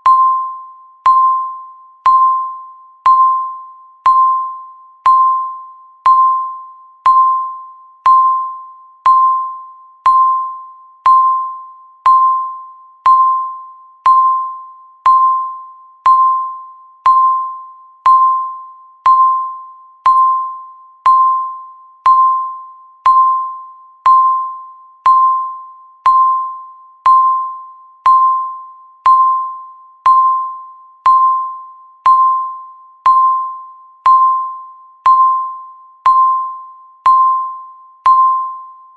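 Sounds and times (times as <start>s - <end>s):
countdown timer beeping: 0.0s - 38.9s.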